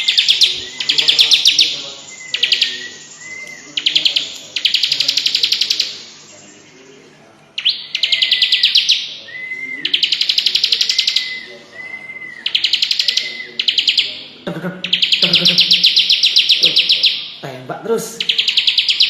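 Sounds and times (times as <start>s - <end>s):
bird rattling song: 0.0s - 6.8s, 7.6s - 17.4s, 18.2s - 19.0s.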